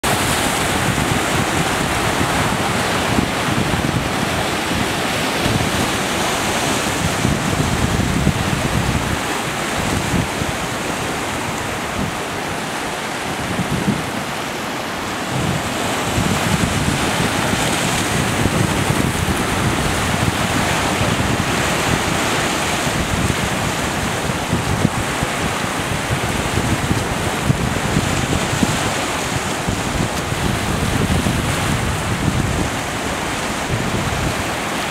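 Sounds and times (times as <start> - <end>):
ocean surf breaking: 0.0 - 34.9
whitewater washing up shore: 0.0 - 34.9
wind buffeting microphone: 0.0 - 34.9.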